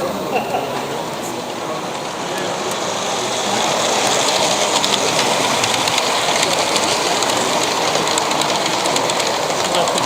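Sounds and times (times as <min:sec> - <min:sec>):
model train running: 0:00.0 - 0:10.0
wheels clicking over rail joints: 0:00.8 - 0:10.0.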